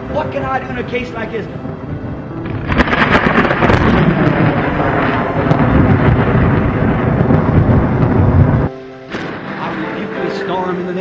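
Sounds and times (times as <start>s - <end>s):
rumbling thunder: 0.0s - 11.0s
sharp thunder cracks: 0.0s - 11.0s.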